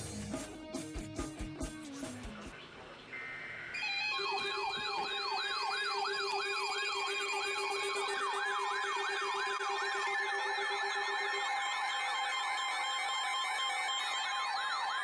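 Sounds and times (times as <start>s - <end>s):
electronic sirens sweeping: 2.6s - 15.0s
steady held tones: 2.6s - 15.0s.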